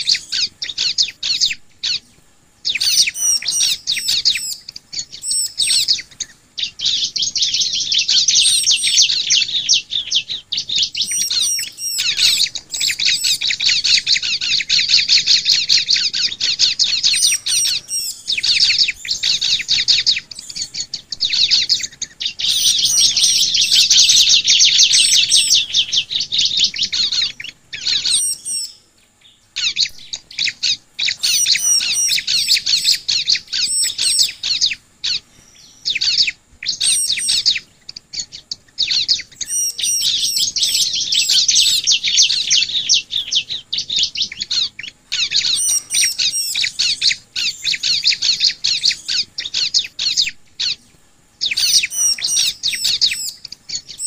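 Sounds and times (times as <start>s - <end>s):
bird singing rapid high chattering: 0.0s - 54.0s.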